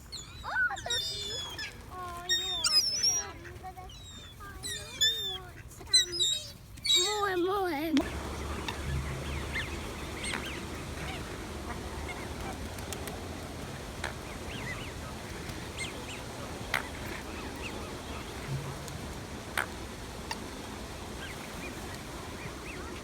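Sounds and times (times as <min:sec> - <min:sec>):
steady background noise: 0:00.0 - 0:23.0
waterfowl honking: 0:00.0 - 0:23.0.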